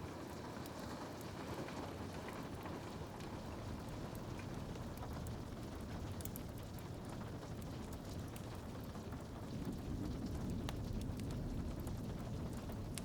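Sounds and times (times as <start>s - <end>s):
rain on a window: 0.0s - 13.0s
wood fire crackling: 0.0s - 13.0s.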